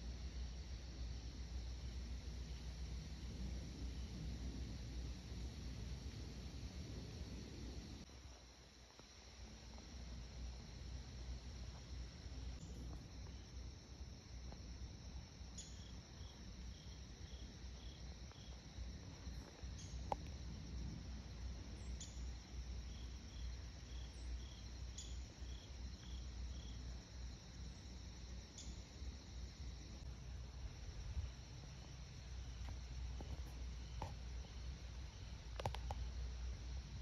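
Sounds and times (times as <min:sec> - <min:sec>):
crickets trilling: 0:00.0 - 0:37.0.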